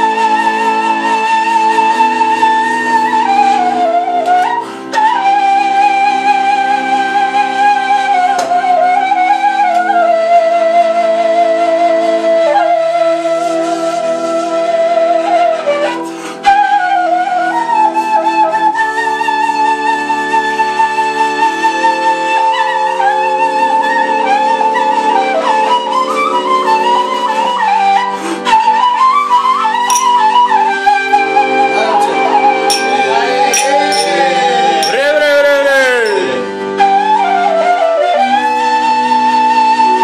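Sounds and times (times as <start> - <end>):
wooden flute playing slow melody: 0.0 - 40.0.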